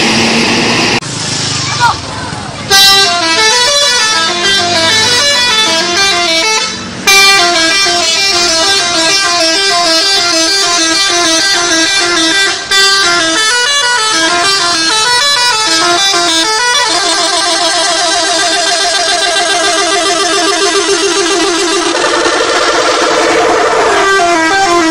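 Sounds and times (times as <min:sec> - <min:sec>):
multi-tone musical bus horn: 0:02.7 - 0:24.9.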